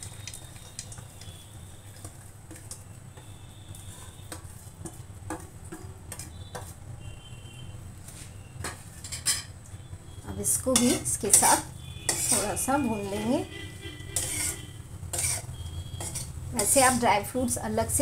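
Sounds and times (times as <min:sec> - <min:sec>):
flour sizzling in ghee: 0:00.0 - 0:18.0.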